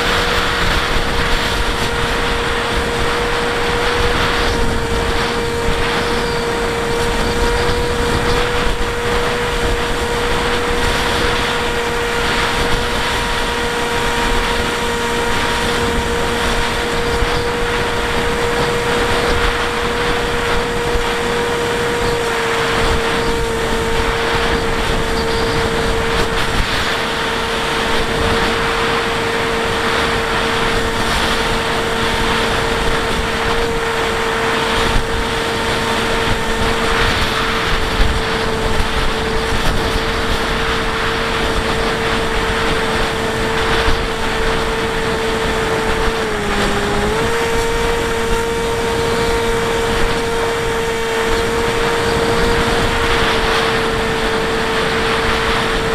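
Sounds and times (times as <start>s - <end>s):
electric motor and propeller whining: 0.0s - 55.9s
wind rush: 0.0s - 55.9s.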